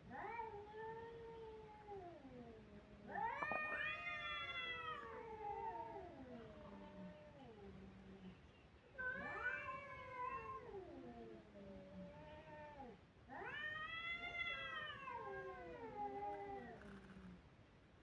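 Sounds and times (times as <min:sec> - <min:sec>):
cats yowling: 0:00.1 - 0:07.7, 0:09.0 - 0:17.1.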